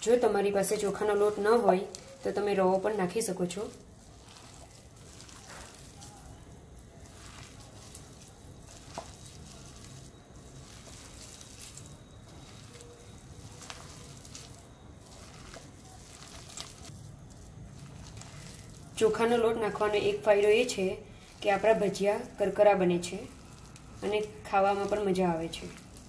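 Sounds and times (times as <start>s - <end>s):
wet squishing and rustling: 0.0s - 26.0s.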